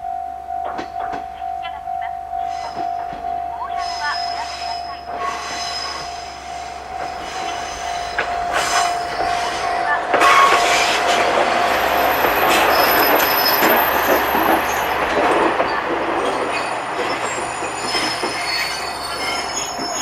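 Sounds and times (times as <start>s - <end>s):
wheels rumbling on rail: 0.0s - 20.0s
high wheel squeal: 2.4s - 20.0s.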